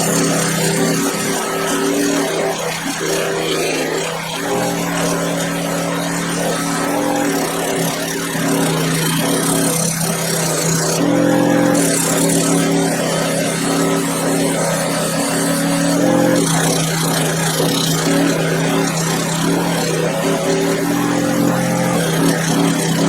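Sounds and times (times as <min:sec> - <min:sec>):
polishing wheel motor hum: 0:00.0 - 0:23.0.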